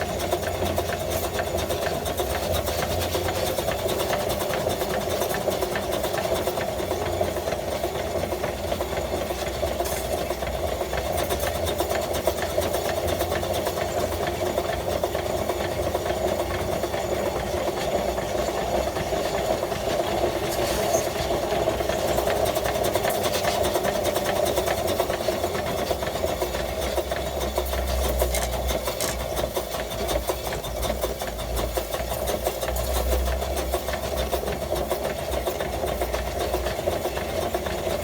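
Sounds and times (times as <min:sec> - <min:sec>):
rapid engine knock tapping: 0:00.0 - 0:20.5, 0:21.3 - 0:38.0
steam engine running: 0:00.0 - 0:38.0.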